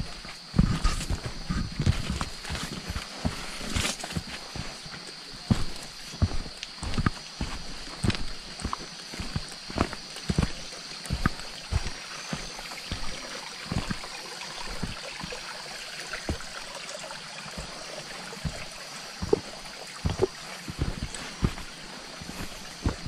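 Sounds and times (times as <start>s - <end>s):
footsteps on a trail: 0.0s - 23.0s
stream trickling: 0.0s - 23.0s.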